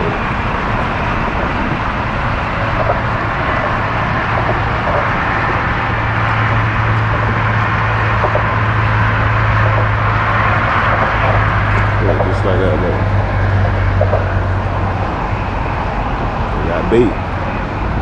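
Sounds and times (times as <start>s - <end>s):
outdoor noise: 0.0s - 18.0s
vehicle engine hum: 0.0s - 18.0s.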